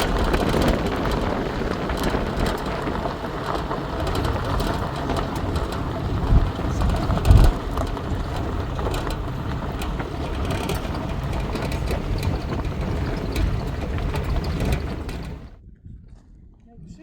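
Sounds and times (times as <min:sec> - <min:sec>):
small rattles and clicks: 0:00.0 - 0:15.6
vehicle rumble: 0:00.0 - 0:15.6.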